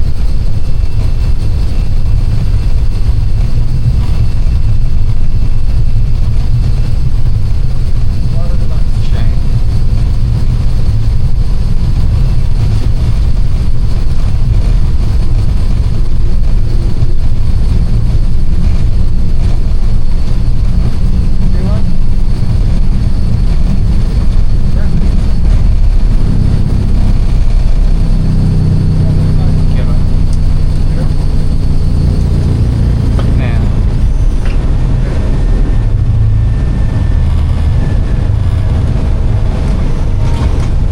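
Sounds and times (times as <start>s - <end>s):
airliner rumble: 0.0s - 40.9s
faint high whine: 0.0s - 40.9s.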